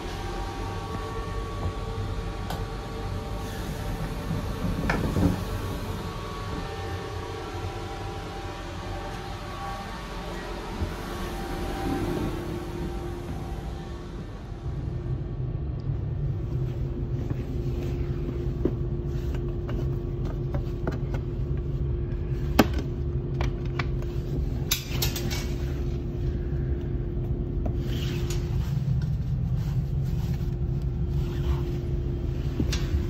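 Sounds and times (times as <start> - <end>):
train interior rumble and hum: 0.0 - 33.0.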